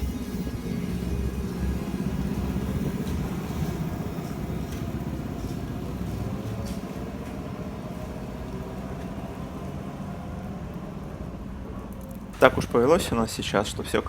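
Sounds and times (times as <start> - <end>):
vehicle engine rumble: 0.0 - 13.9.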